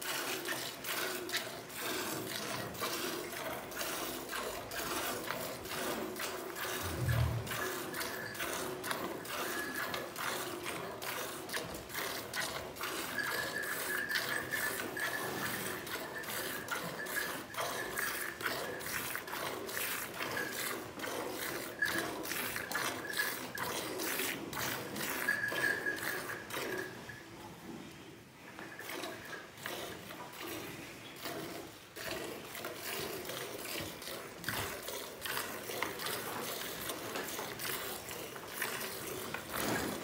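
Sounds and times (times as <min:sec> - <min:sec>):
milk squirting into a pail: 0:00.0 - 0:26.9, 0:28.8 - 0:40.0.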